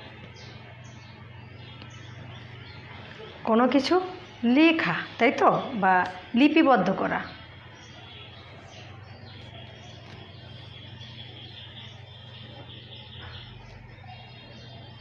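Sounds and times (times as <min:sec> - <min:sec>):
faint high chirping: 0:00.0 - 0:15.0
steady low hum: 0:00.0 - 0:15.0.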